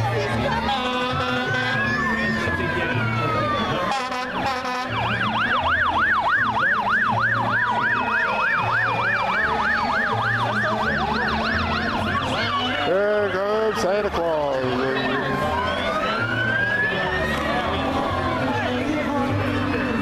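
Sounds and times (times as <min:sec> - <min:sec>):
fire engine siren yelp: 0:00.5 - 0:20.0.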